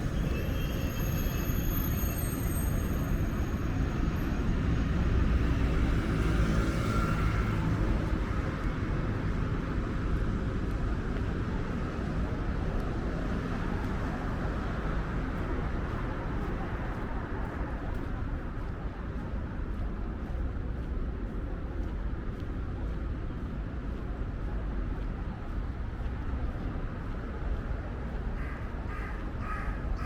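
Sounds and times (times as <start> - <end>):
city street noise: 0.0 - 30.0.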